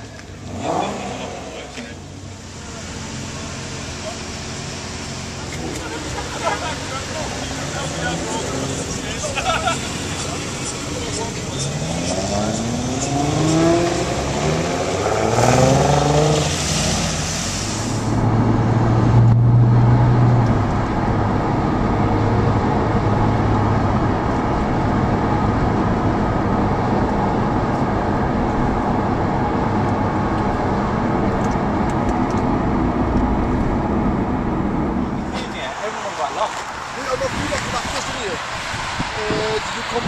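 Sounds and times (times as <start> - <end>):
car engine accelerating: 0.0 - 40.0
road noise: 0.0 - 40.0.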